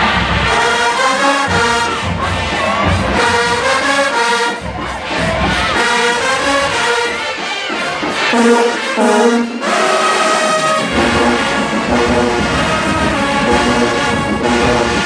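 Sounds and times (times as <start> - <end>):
brass section blaring: 0.0 - 15.0.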